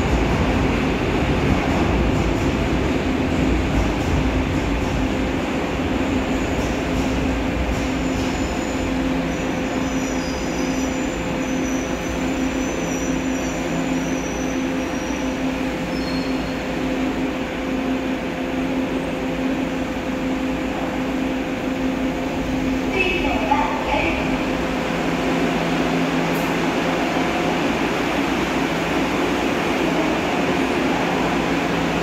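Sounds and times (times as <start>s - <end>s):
train rumble and hum: 0.0s - 32.0s.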